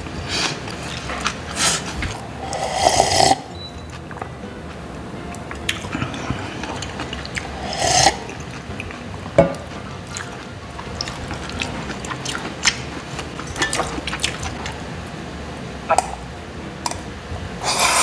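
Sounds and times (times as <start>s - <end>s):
person chewing food: 0.2s - 14.8s.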